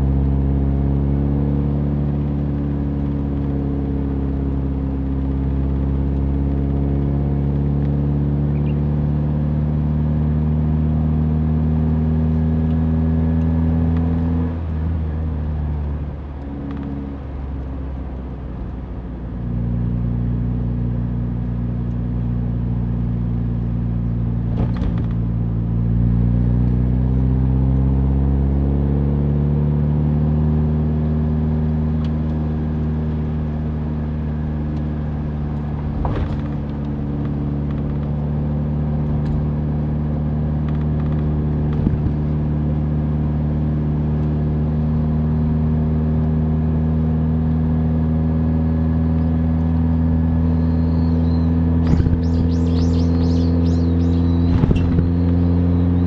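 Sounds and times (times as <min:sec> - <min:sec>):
car engine running: 0:00.0 - 0:29.4, 0:30.0 - 0:56.0
road noise: 0:00.0 - 0:56.0.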